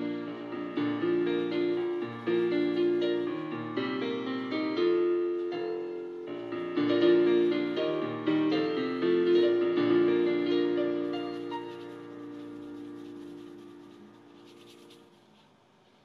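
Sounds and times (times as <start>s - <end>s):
slow piano melody: 0.0s - 15.4s.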